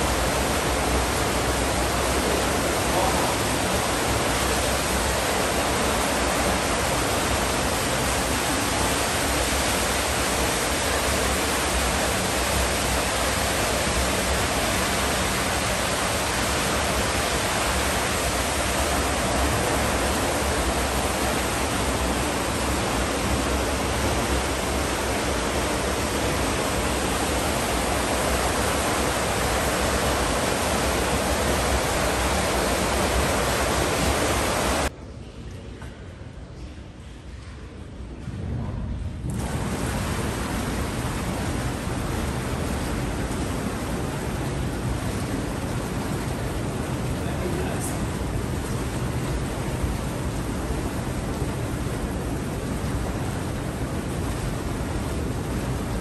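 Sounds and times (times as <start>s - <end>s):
water pouring into pool: 0.0s - 34.9s, 39.3s - 56.0s.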